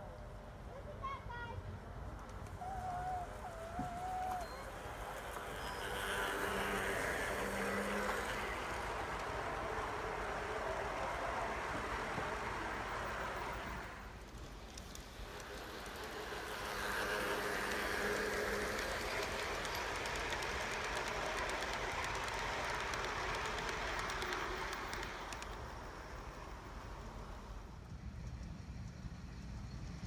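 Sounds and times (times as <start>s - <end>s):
model train whirring: 0.0s - 30.0s
wheels clicking over rail joints: 2.0s - 30.0s.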